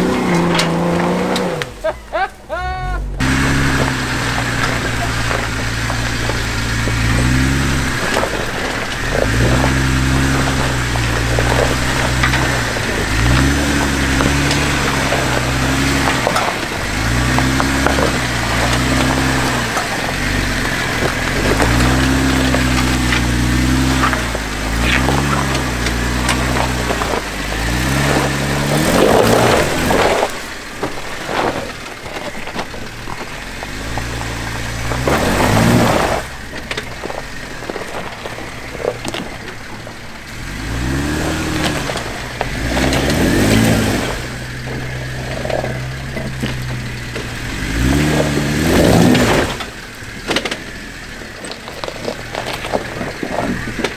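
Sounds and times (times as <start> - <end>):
car engine revving: 0.0 - 53.9
rocks crunching under tyres: 0.0 - 53.9.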